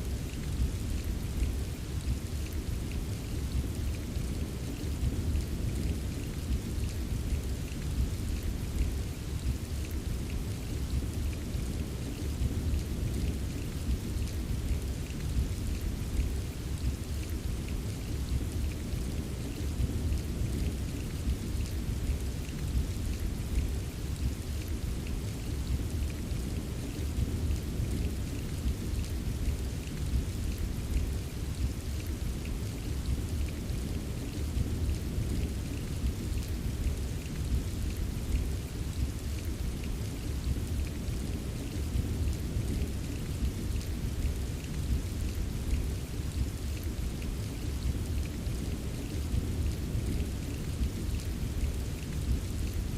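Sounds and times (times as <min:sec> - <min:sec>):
deep rumble of heavy rain: 0:00.0 - 0:52.9
patter of raindrops: 0:00.0 - 0:52.9.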